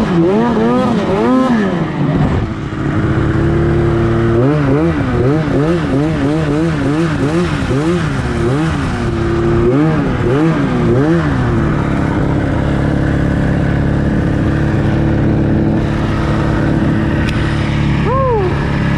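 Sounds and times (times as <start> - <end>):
snowmobile engine revving: 0.0 - 18.9.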